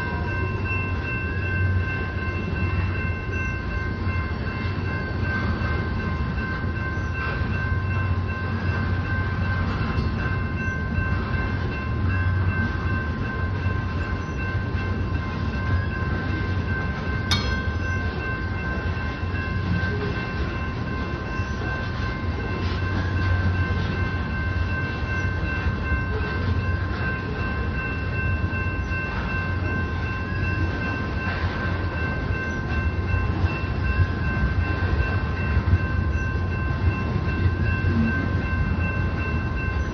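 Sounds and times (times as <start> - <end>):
high-pitched ringing tones: 0.0 - 39.9
train wheels rumbling on rail: 0.0 - 39.9.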